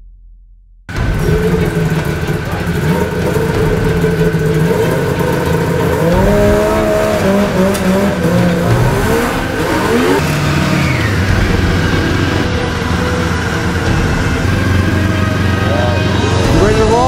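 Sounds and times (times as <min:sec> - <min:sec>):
snowmobile engine revving: 0:00.9 - 0:17.0.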